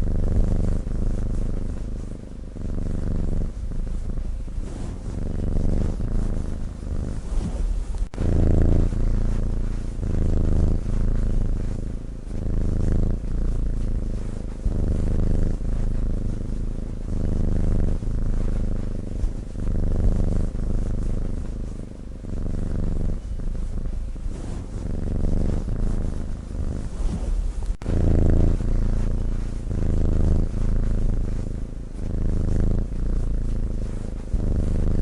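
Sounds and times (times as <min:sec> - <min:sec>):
cat snoring: 0:00.0 - 0:35.0.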